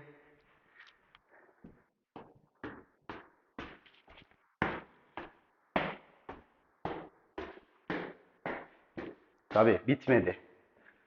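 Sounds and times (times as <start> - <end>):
footsteps on hard floor: 0.7 - 9.8.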